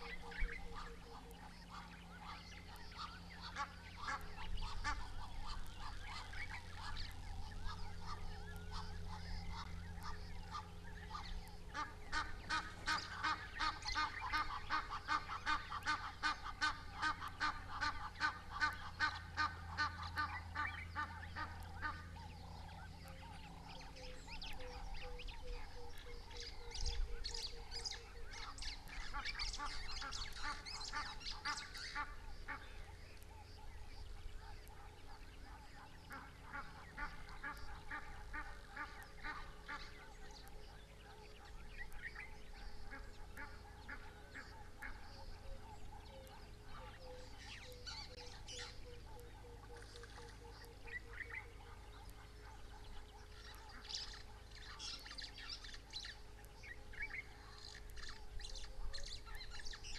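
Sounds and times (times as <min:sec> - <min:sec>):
birds honking calls: 0:00.0 - 0:59.9.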